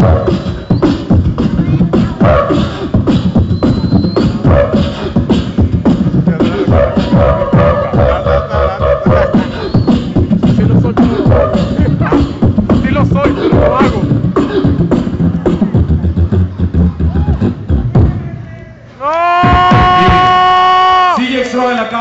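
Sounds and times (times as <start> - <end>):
beatboxing through microphone: 0.0 - 18.1.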